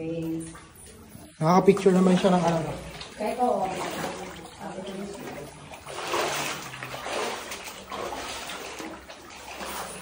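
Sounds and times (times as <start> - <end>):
person wading through water: 0.6 - 10.0.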